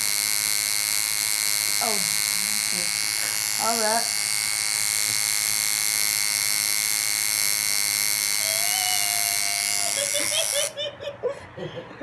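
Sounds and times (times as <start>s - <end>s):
tattoo machine buzzing: 0.0s - 10.8s.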